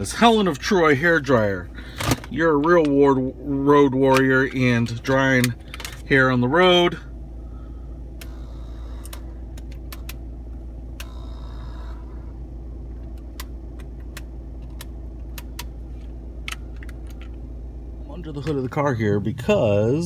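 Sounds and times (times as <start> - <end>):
car cabin hum and rumble: 0.0 - 20.0.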